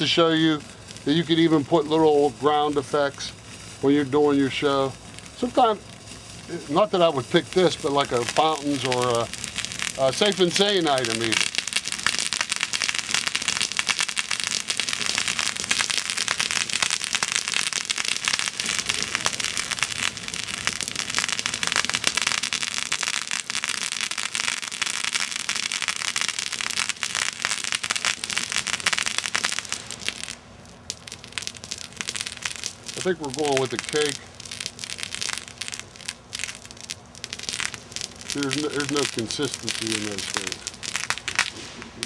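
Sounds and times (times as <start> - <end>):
fireworks crackling: 0.0 - 42.0.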